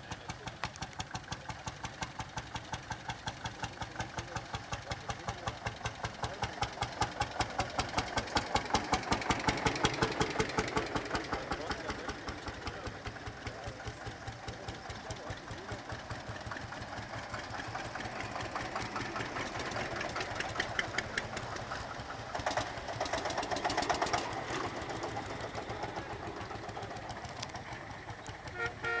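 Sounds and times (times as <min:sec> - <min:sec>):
tractor engines knocking: 0:00.0 - 0:29.0.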